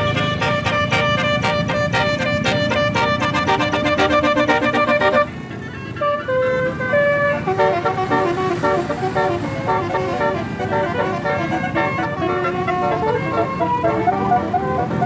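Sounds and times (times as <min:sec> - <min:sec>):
bus horn playing melody: 0:00.0 - 0:15.0
engine and traffic noise: 0:00.0 - 0:15.0.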